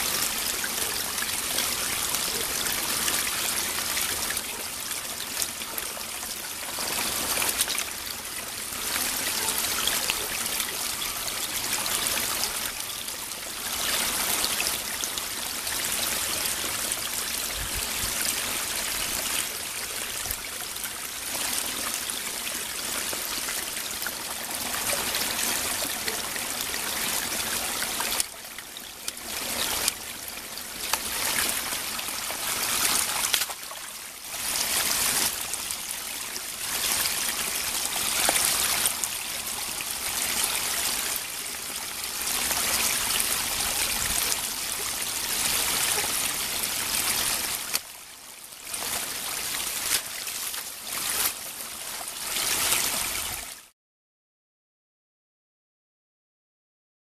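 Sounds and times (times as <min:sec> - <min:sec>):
stream trickling over cascade: 0:00.0 - 0:53.7.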